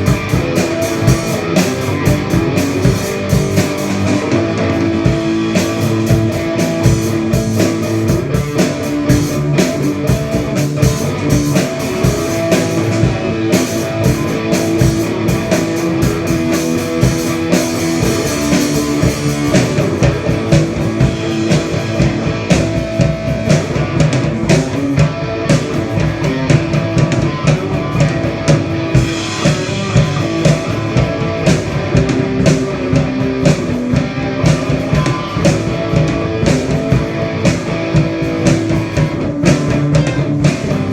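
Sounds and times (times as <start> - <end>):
drum kit steady beat: 0.0 - 40.9
guitar: 0.0 - 40.9
rock band playing: 0.0 - 40.9.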